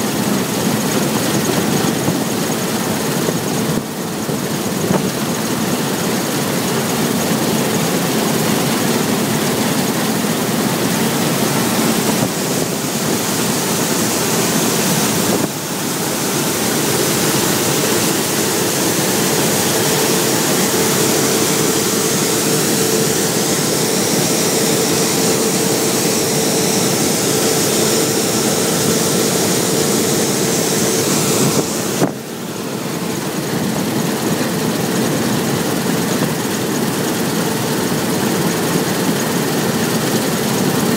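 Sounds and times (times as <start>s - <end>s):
combine harvester hum and hiss: 0.0s - 40.9s.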